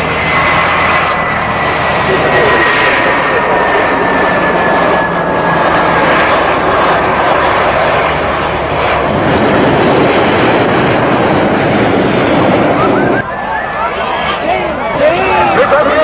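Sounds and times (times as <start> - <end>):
faint high engine whine: 0.0 - 16.0
jet engines rushing: 0.0 - 16.0.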